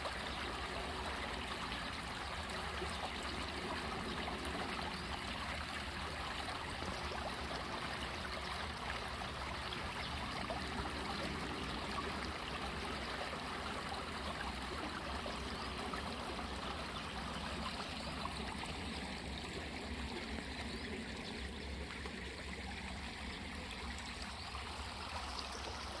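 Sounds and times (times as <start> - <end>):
stream flowing over pebbles: 0.0 - 26.0.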